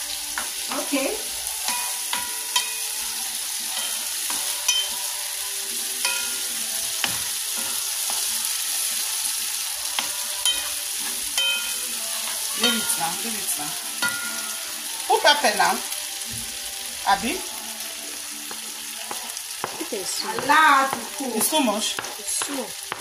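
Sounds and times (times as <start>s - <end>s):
vegetables sizzling in a frying pan: 0.0s - 23.0s.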